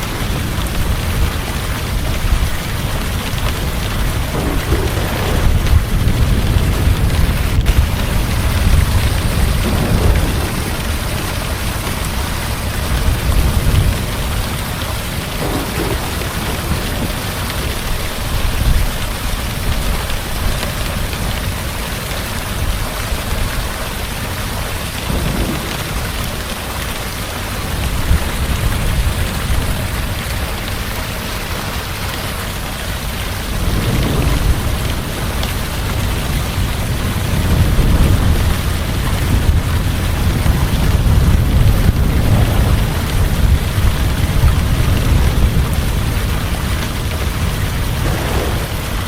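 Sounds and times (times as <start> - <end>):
heavy rain falling: 0.0 - 49.0
low thunder rumbling: 0.1 - 21.4, 23.1 - 29.8, 32.8 - 49.0.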